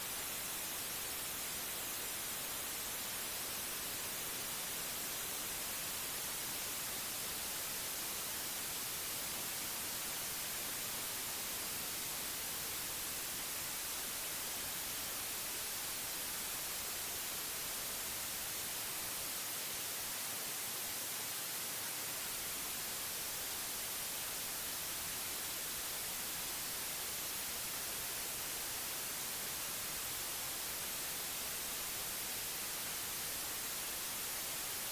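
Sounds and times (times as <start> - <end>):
white noise hiss: 0.0 - 34.9.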